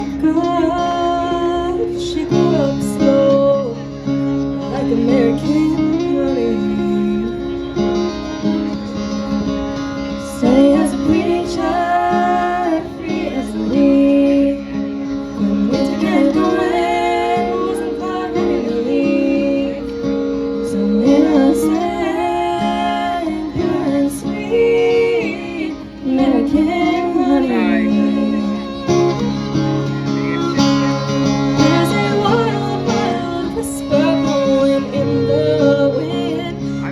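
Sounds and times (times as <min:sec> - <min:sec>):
woman singing: 0:00.0 - 0:08.2, 0:10.2 - 0:29.3, 0:31.5 - 0:36.9
guitar accompaniment: 0:00.0 - 0:36.9.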